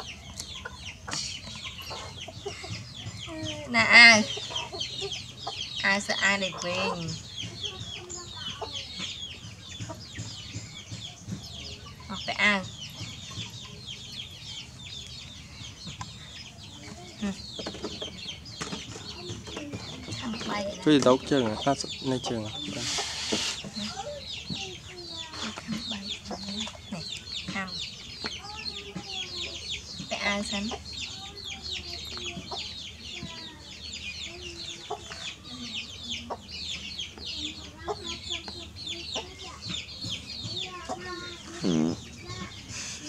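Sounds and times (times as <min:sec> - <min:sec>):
birds chirping: 0:00.0 - 0:43.0
low bird calls: 0:00.0 - 0:43.0.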